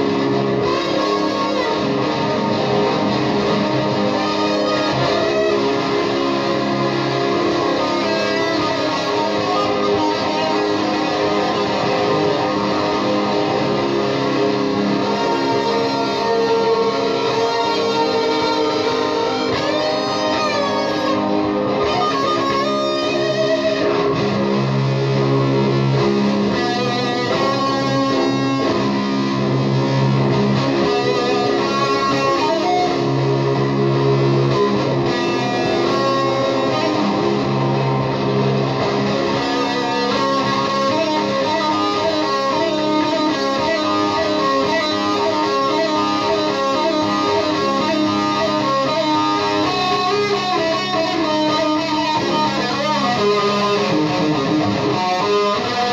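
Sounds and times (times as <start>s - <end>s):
psychedelic electric guitar: 0.0s - 55.9s.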